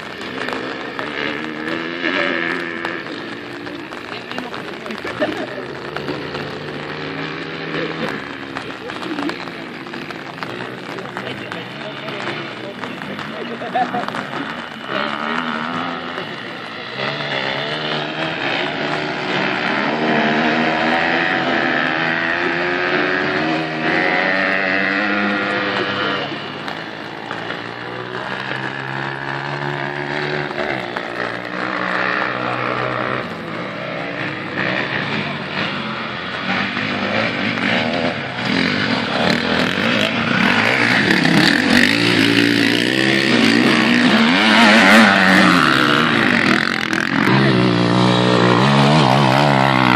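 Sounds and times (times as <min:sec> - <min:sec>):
racing motorcycle engines revving: 0:00.0 - 0:49.9.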